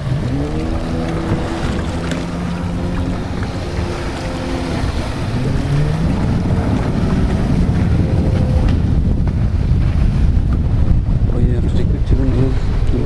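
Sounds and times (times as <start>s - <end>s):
jet ski engine running: 0.0s - 13.0s
wind buffeting microphone: 0.0s - 13.0s.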